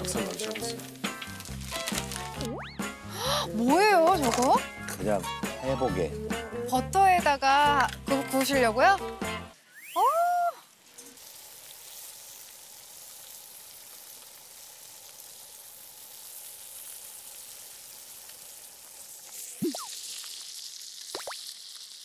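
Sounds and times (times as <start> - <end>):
seafood sizzling in a skillet: 0.0 - 22.0.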